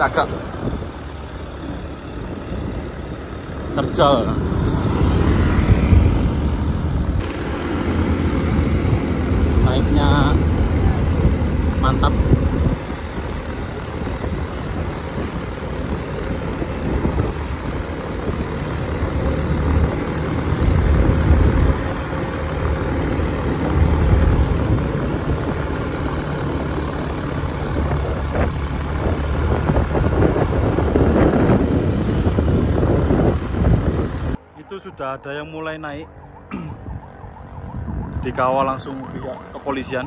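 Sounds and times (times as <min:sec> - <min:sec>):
heavy truck engines rumbling: 0:00.0 - 0:40.0.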